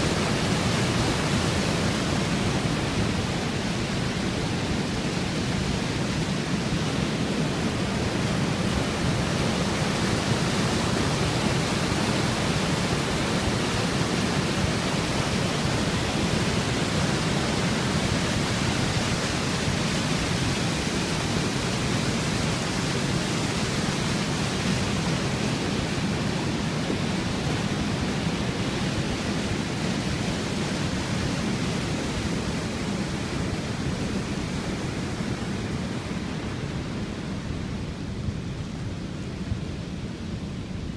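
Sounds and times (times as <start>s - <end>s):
water rushing over weir: 0.0s - 40.9s.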